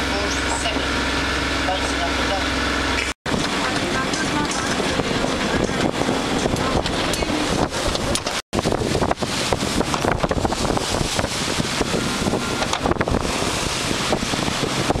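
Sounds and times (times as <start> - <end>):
sea water rushing: 0.0 - 15.0
wind buffeting microphone: 2.6 - 15.0.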